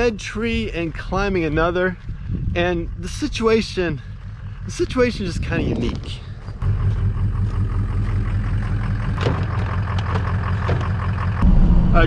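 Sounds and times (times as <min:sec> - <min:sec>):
truck engine running: 0:02.0 - 0:12.0.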